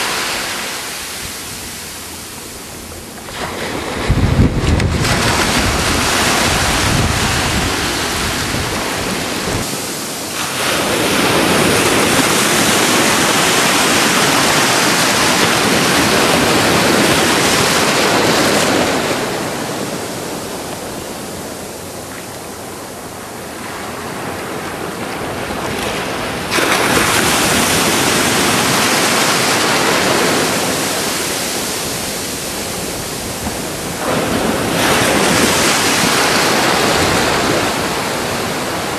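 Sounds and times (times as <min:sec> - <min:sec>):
ocean surf breaking: 0:00.0 - 0:38.9
wind buffeting microphone: 0:01.0 - 0:38.9.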